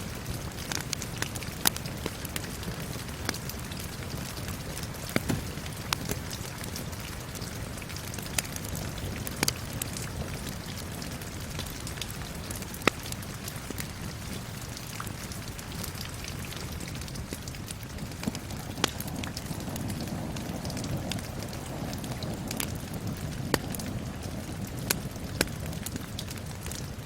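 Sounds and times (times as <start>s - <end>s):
crackling wood fire popping: 0.0s - 27.0s
steady rain falling: 0.0s - 27.0s.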